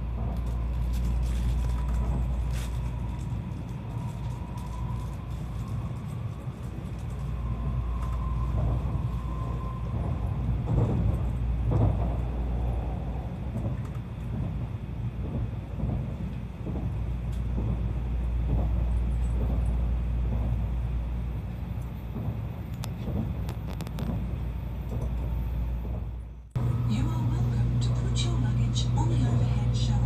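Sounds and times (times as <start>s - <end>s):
train cabin low rumble: 0.0s - 30.0s.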